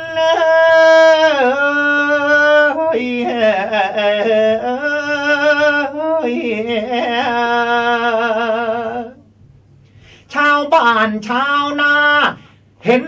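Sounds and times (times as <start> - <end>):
man singing a chanted song: 0.0 - 9.2, 10.3 - 13.0.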